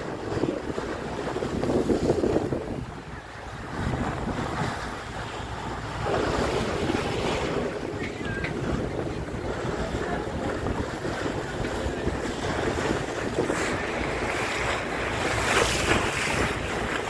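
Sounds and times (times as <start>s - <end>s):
sea splashing against boat hull: 0.0s - 17.0s
wind buffeting microphone: 0.0s - 17.0s.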